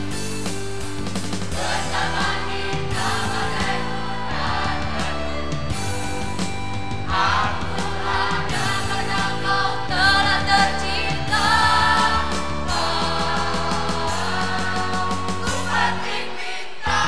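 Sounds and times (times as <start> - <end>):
instrumental accompaniment with beat: 0.0 - 17.0
mixed choir singing: 1.5 - 5.8, 7.1 - 17.0.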